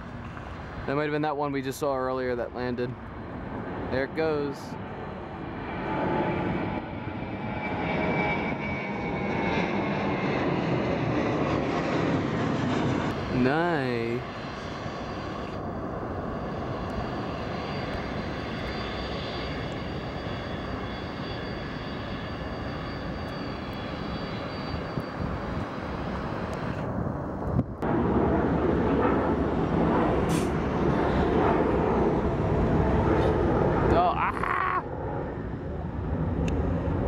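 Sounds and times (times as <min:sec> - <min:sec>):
jet engines taxiing: 0:00.0 - 0:37.0
jet taking off: 0:00.1 - 0:37.0.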